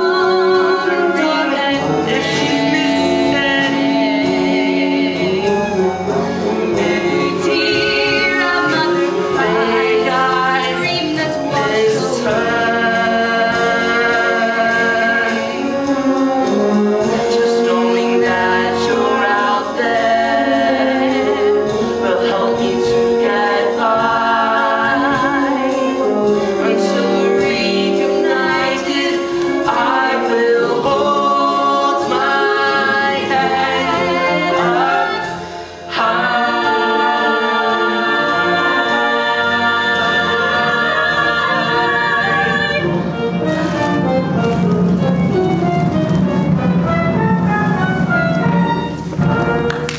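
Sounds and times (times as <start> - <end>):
two voices singing in harmony: 0.0 - 45.6
instrumental accompaniment: 0.0 - 49.9.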